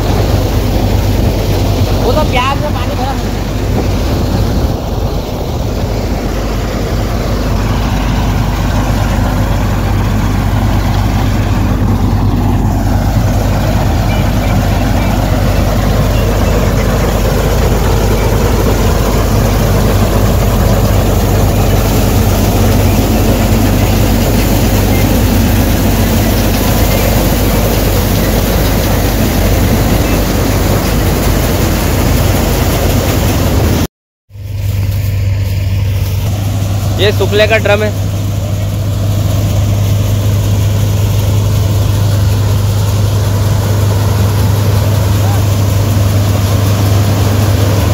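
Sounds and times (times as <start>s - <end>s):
combine harvester droning: 0.0s - 47.9s.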